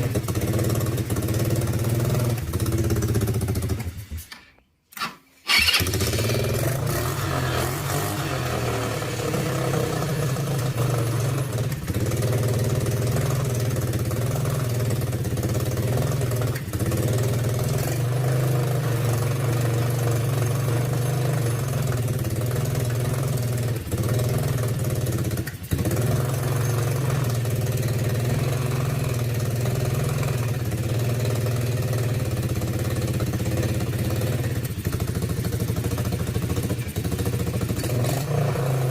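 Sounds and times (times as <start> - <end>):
small engine idling: 0.0 - 4.0, 5.5 - 38.9.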